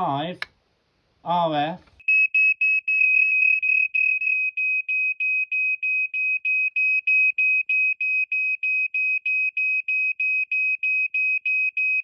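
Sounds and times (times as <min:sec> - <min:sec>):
smoke alarm beeping: 0:02.0 - 0:12.0.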